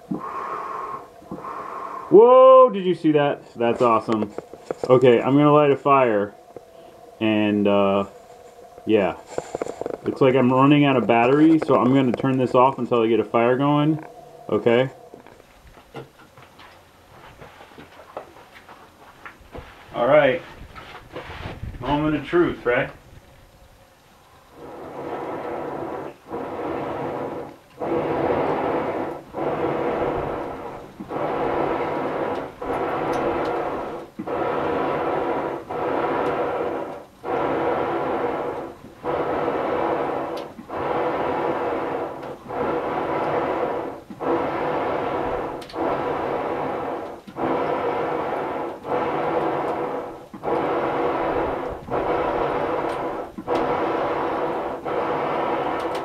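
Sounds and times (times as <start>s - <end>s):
bellows pumping air: 0.0s - 15.4s, 24.6s - 56.0s.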